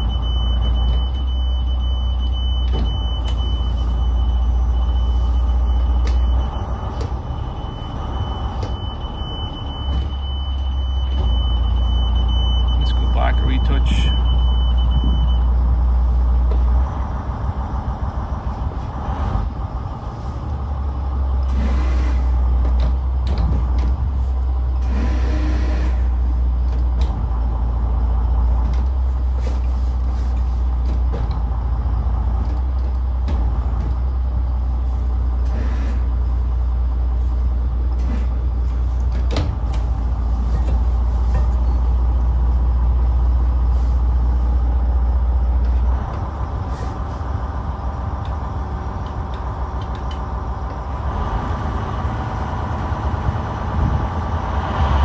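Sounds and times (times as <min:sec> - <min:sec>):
boat engine rumbling: 0:00.0 - 0:55.0.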